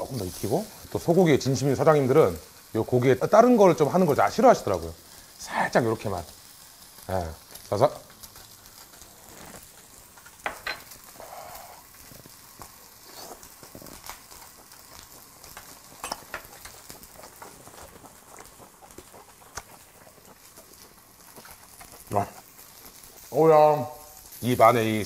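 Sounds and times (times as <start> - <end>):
steaks sizzling on a griddle: 0.0 - 25.0.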